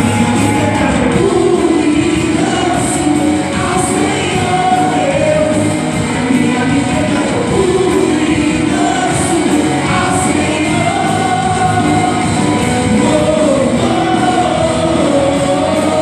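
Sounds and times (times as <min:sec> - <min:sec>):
person singing: 0:00.0 - 0:16.0
rock band playing: 0:00.0 - 0:16.0.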